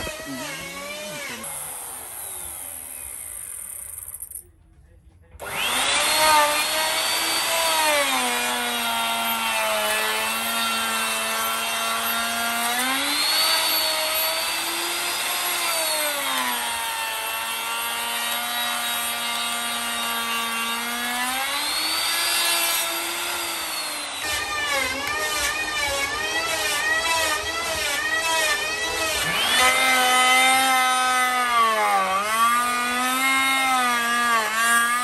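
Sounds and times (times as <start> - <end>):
electric router cutting wood: 0.0 - 3.8, 5.4 - 35.0.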